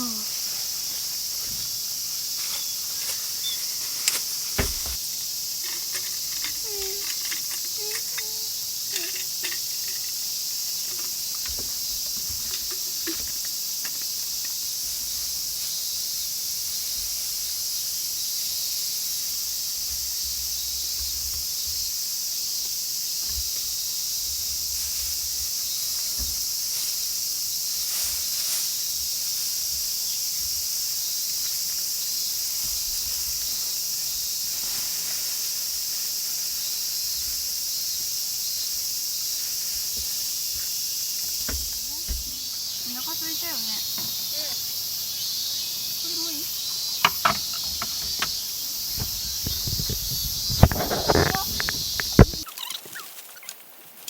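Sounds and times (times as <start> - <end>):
crickets and insects chirring: 0.0 - 54.0.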